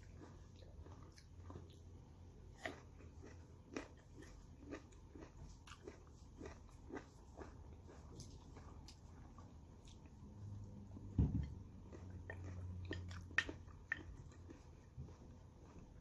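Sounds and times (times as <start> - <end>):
person chewing crisp fruit: 0.0 - 16.0.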